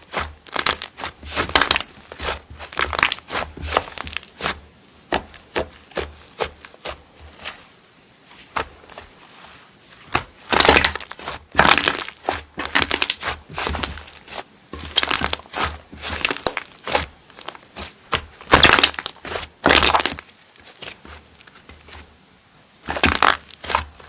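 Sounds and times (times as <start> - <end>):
slime crackling and popping: 0.0 - 7.0, 10.1 - 21.5, 22.8 - 24.0.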